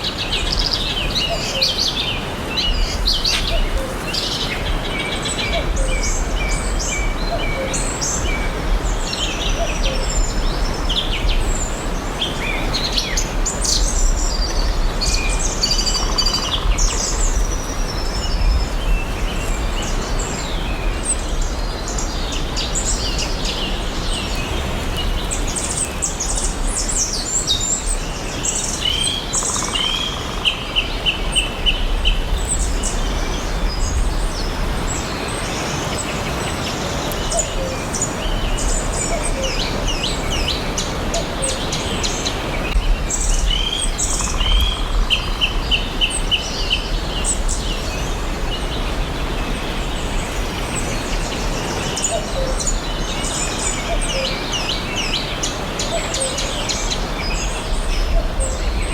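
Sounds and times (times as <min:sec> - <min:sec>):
background hiss and rumble: 0:00.0 - 0:58.9
songbirds chirping and singing: 0:00.0 - 0:58.9.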